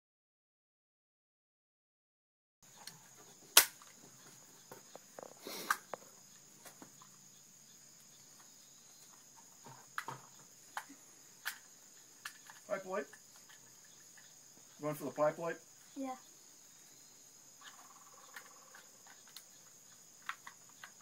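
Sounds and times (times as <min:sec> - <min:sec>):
insects chirring: 0:02.6 - 0:21.0.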